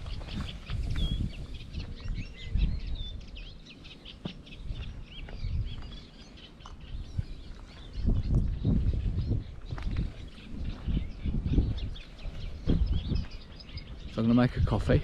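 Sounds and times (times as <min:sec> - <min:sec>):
small birds chirping: 0:00.0 - 0:15.0
wind rumbling on microphone: 0:00.0 - 0:15.0.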